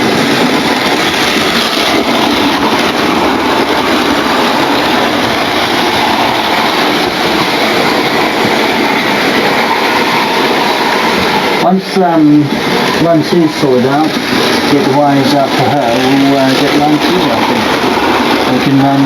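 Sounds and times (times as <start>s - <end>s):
model train rolling on rails: 0.0s - 19.0s.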